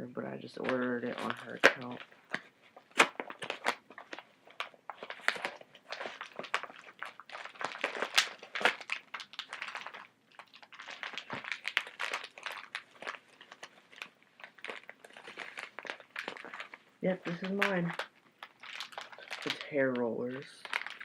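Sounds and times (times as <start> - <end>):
packaging crinkling and tearing: 0.6 - 21.0.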